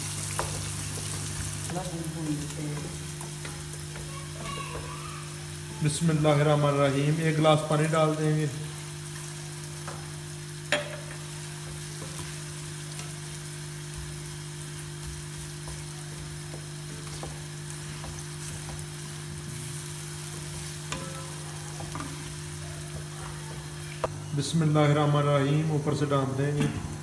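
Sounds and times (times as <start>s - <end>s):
gravy sizzling and simmering: 0.0s - 27.0s.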